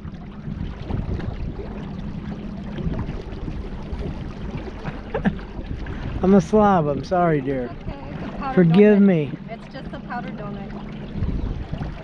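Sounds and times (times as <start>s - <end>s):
wind noise: 0.0s - 10.0s, 11.0s - 12.0s
river water washing: 0.0s - 12.0s.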